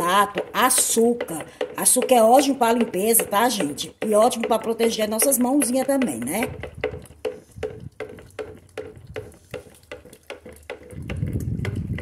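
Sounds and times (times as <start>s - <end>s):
stick knocking plastic pitcher: 0.0s - 12.0s.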